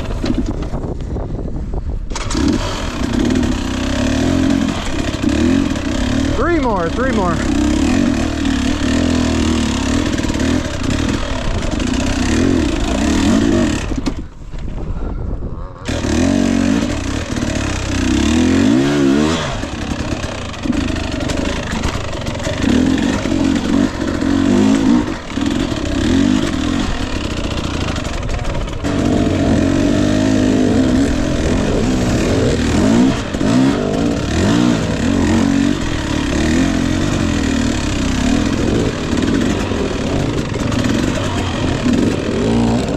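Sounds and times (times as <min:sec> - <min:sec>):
dirt bike engine revving: 0:02.1 - 0:14.8, 0:15.6 - 0:42.9.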